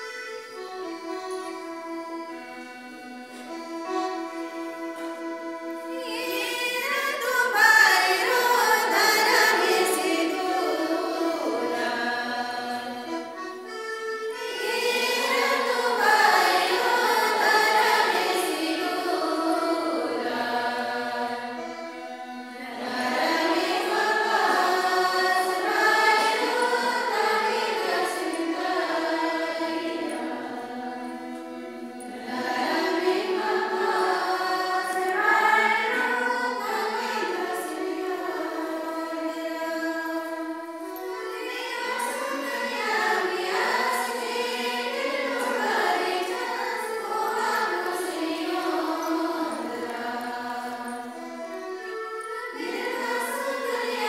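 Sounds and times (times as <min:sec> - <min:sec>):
sustained keyboard accompaniment: 0:00.0 - 0:54.0
group singing a hymn: 0:02.4 - 0:54.0.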